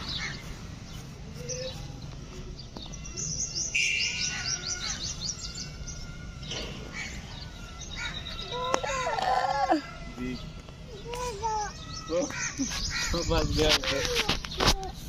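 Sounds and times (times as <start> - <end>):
bird chirping: 0.0 - 14.7.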